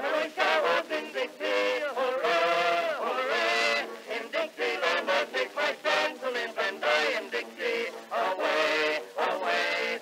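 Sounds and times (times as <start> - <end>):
song with singing voice: 0.0 - 10.0.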